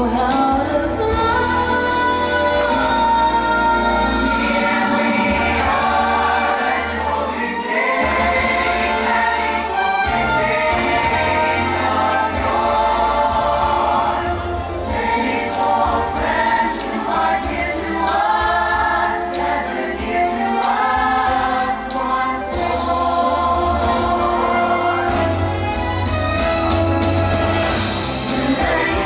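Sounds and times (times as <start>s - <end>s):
choir singing over orchestral music: 0.0s - 29.0s.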